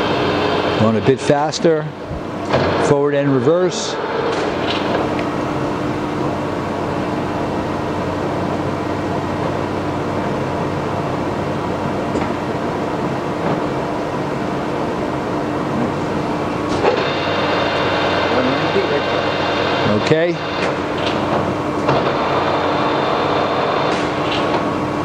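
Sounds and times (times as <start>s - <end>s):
lathe running hum: 0.0s - 25.0s.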